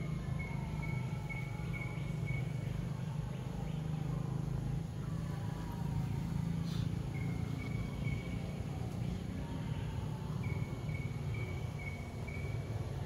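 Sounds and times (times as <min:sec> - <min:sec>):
faint high-pitched chirping: 0:00.0 - 0:13.0.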